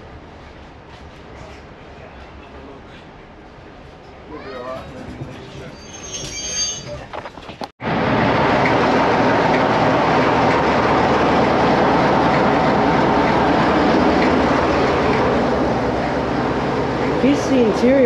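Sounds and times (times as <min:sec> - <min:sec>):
train running on track: 0:00.0 - 0:18.0.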